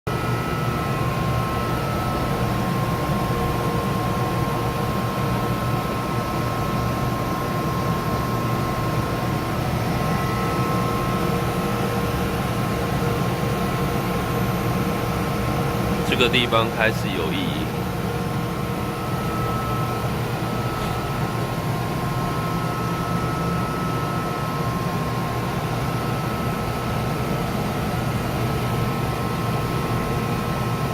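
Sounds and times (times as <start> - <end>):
vacuum pump humming: 0.1 - 30.9.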